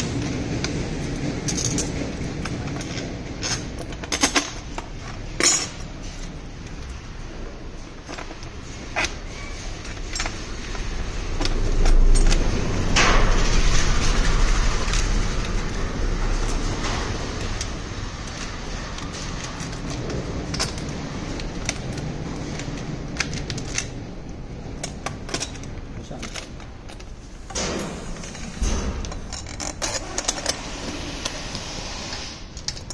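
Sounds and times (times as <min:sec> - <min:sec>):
rumble and rustle of handling: 0:00.0 - 0:32.9.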